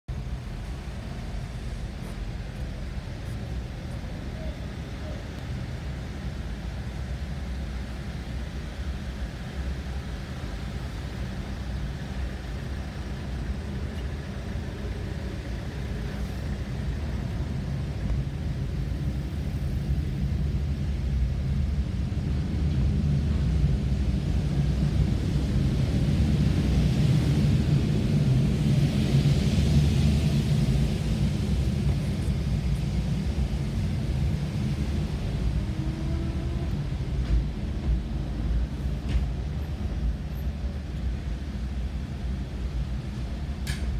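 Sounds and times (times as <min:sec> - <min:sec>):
rumble of car engines and tyres: 0:00.1 - 0:43.9.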